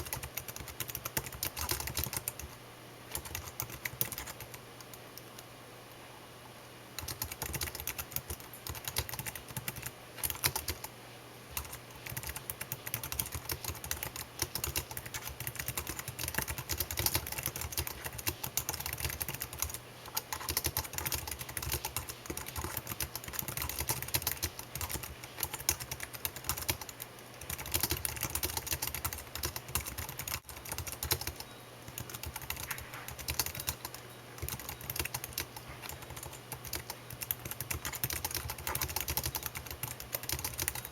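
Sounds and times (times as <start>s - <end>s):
faint steady low hum: 0.0s - 40.9s.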